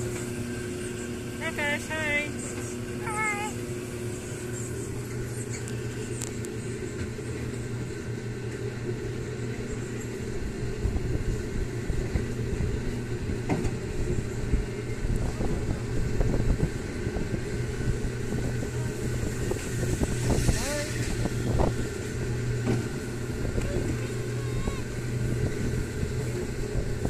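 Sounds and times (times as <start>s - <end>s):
ride car drive humming: 0.0s - 27.0s.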